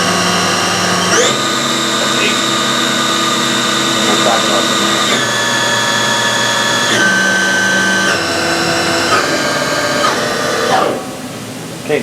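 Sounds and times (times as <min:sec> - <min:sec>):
cnc spindle high whine: 0:00.0 - 0:11.8.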